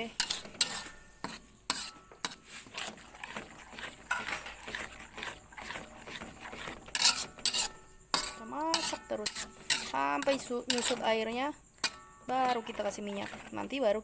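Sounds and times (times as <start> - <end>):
spatula scraping wok: 0.0 - 14.0.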